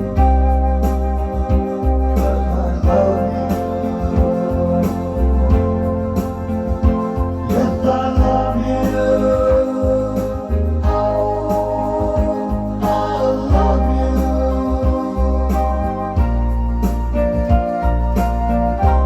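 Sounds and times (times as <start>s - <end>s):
person singing: 0.0s - 17.8s
bass: 0.0s - 19.0s
electronic organ chords: 0.0s - 19.0s
steady drum beat: 0.0s - 19.0s.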